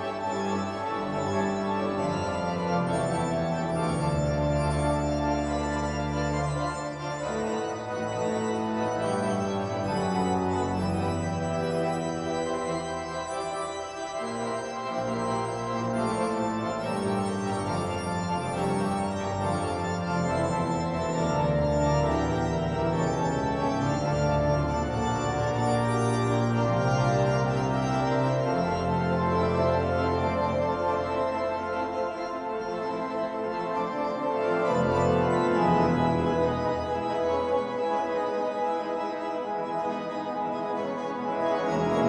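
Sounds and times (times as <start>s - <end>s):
deep organ pedal bass notes: 0.0s - 42.0s
organ chords: 0.0s - 42.0s.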